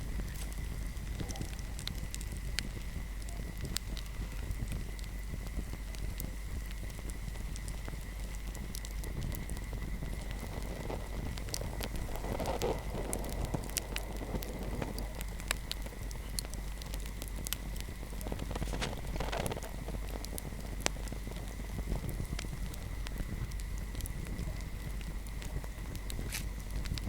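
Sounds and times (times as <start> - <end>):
hiss of flames: 0.0 - 27.0
wood fire crackling: 0.0 - 27.0.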